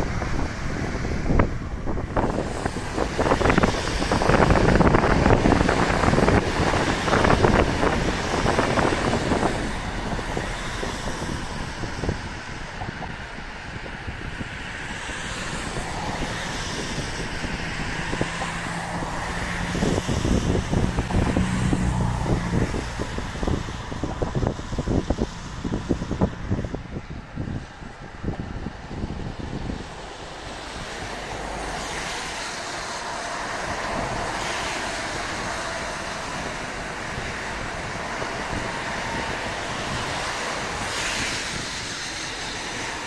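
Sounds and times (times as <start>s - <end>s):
wind on microphone: 0.0s - 43.0s.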